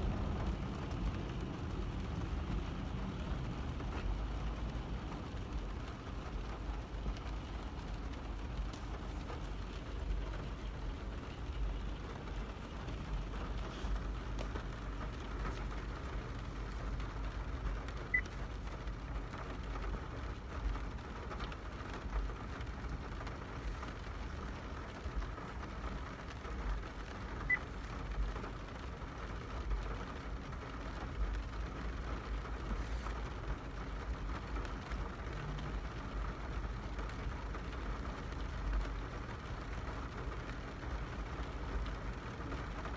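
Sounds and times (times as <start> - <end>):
car engine rumbling: 0.0 - 42.9.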